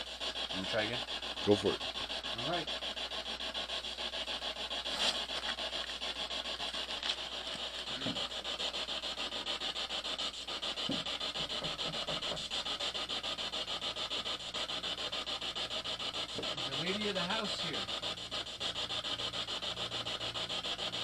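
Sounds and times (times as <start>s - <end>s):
pulsing static hiss: 0.0s - 21.0s.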